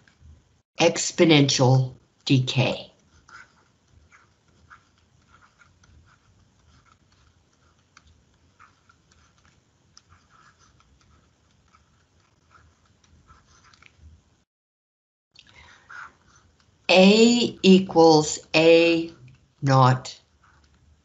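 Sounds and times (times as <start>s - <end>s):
stylus scratching on screen: 0.0s - 14.4s, 15.5s - 21.0s.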